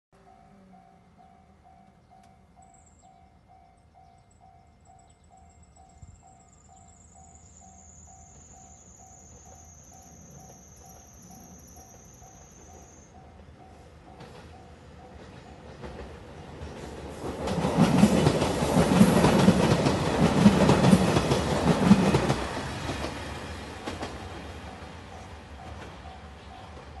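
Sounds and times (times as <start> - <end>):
level-crossing warning bell: 0.2 - 16.2, 18.2 - 27.0
approaching diesel train: 0.2 - 27.0.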